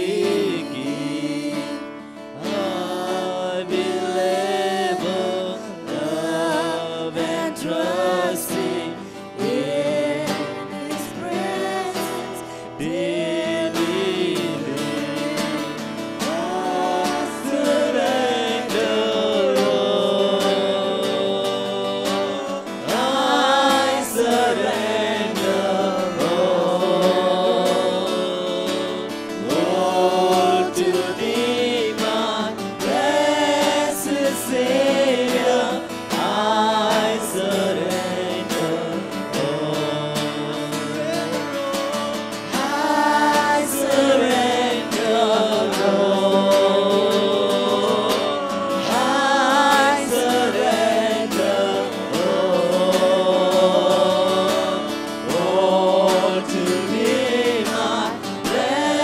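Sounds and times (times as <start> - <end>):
acoustic guitars: 0.0 - 59.0
voices singing worship song: 0.0 - 59.0.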